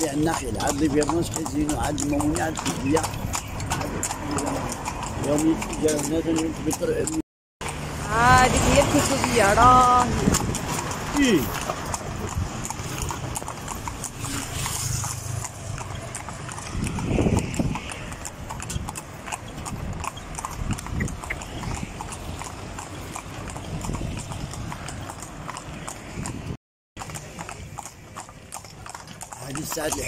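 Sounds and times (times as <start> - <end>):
horse hooves clip-clopping on asphalt: 0.0 - 30.0.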